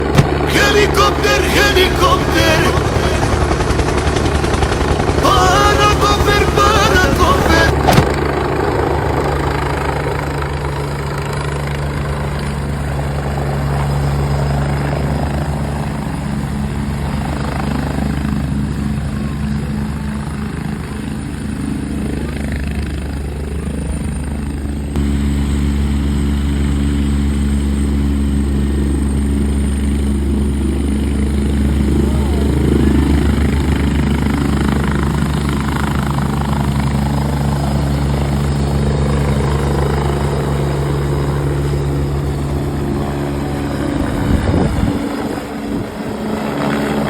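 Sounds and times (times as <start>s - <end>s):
helicopter rotor beating: 0.0s - 47.0s.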